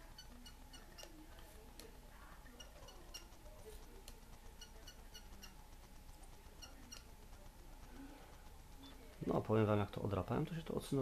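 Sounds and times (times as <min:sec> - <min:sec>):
low steady hum: 0:00.0 - 0:11.0
soldering crackling ticks: 0:00.0 - 0:11.0.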